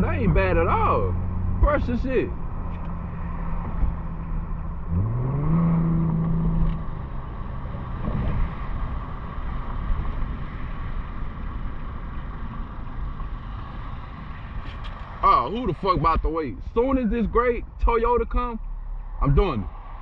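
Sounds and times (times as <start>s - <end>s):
car exhaust drone revving: 0.0s - 20.0s.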